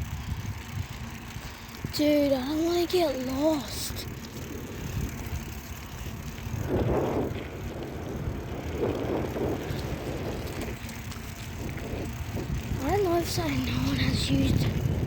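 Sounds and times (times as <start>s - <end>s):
wind on microphone: 0.0s - 2.8s, 3.6s - 15.0s
bicycle tyres rumbling on dirt: 0.0s - 15.0s.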